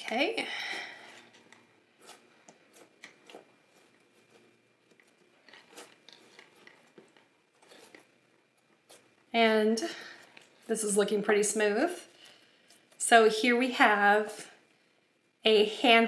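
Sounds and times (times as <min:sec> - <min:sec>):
hands kneading clay: 0:00.1 - 0:14.4.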